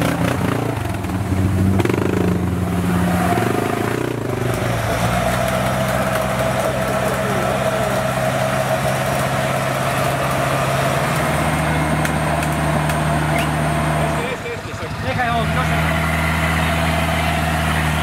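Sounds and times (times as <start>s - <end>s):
engine running at low revs: 0.0s - 18.0s.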